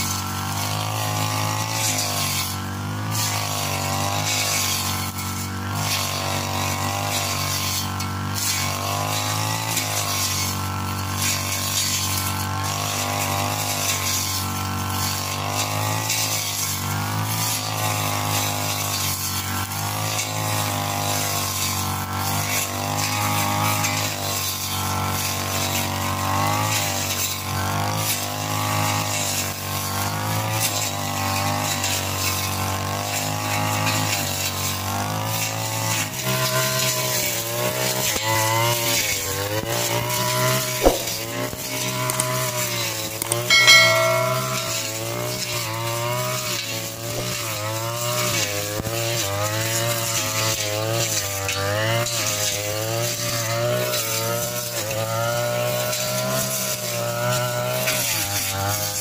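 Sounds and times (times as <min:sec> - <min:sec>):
brush cutter engine cutting grass: 0:00.0 - 0:59.0.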